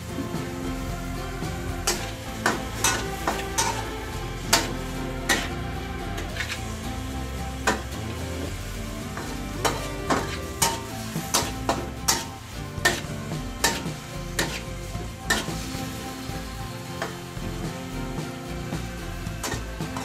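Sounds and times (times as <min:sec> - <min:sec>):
meat sizzling in a wok: 0:00.0 - 0:20.0
spatula scraping pan: 0:00.0 - 0:20.0.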